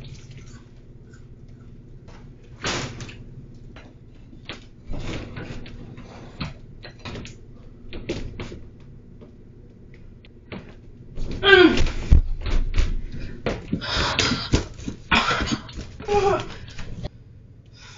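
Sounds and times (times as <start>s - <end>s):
low electrical hum: 0.0s - 17.9s.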